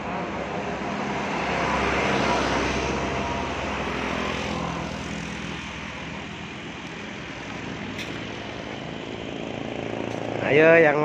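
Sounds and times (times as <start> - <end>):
road vehicle engine running: 0.0 - 11.0.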